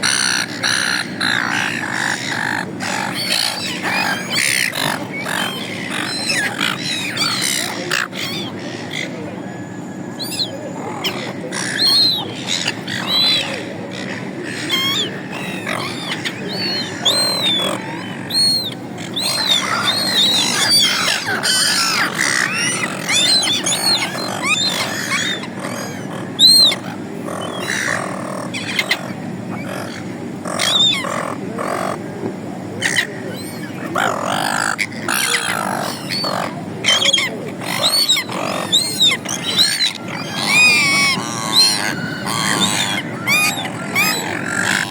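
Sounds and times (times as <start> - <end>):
gulls squawking: 0.0 - 44.9.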